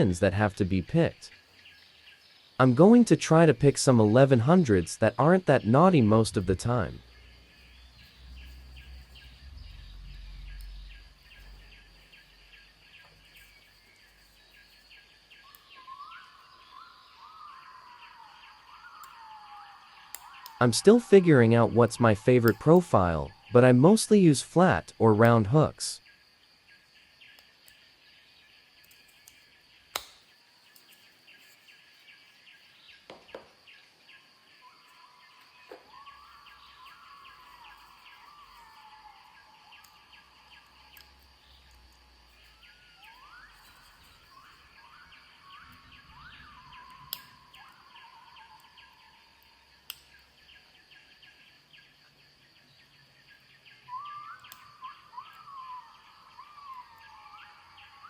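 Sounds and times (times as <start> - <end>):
faint birdsong: 0.0 - 58.0
high insect drone: 0.0 - 58.0.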